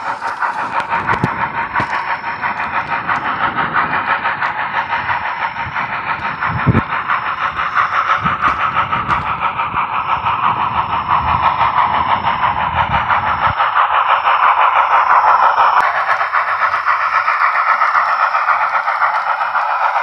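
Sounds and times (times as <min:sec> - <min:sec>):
steam exhaust chuffs through small speaker: 0:00.0 - 0:20.0.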